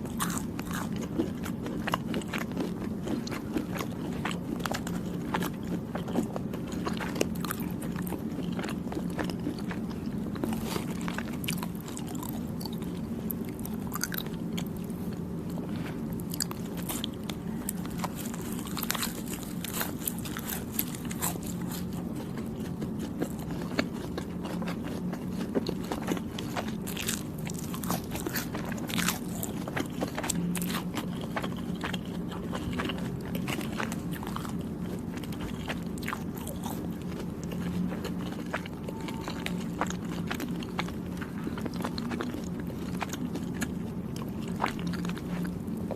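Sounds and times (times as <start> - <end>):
close chewing mouth sounds: 0.0 - 45.9
steady low hum: 0.0 - 45.9.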